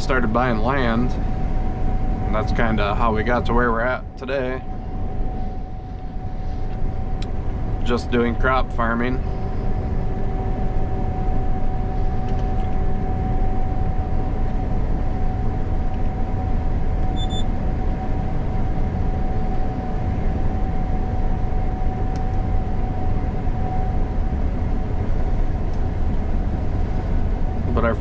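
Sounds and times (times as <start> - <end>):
combine harvester low drone: 0.0 - 28.0
constant whine: 0.0 - 28.0.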